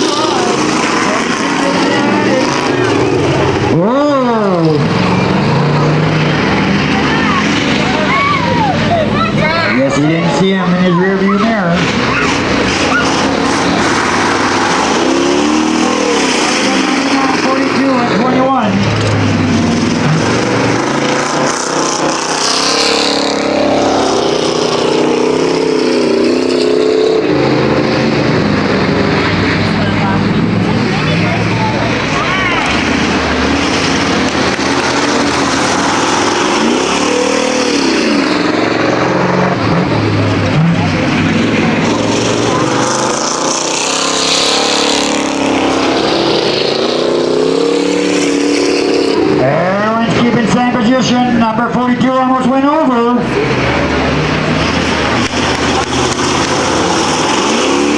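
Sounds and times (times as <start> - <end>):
racing car engines: 0.0 - 57.9.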